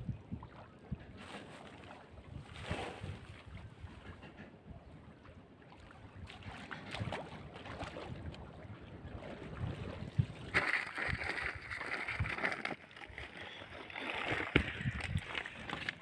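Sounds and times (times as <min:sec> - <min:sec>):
wind on microphone: 0:00.0 - 0:05.3, 0:06.1 - 0:12.6, 0:14.3 - 0:16.0
water splashing and sloshing: 0:00.0 - 0:16.0.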